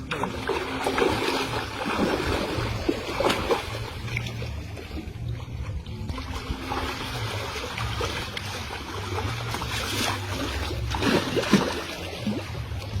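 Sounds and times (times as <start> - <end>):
low steady hum: 0.0 - 13.0
water splashing and dribbling: 0.0 - 13.0.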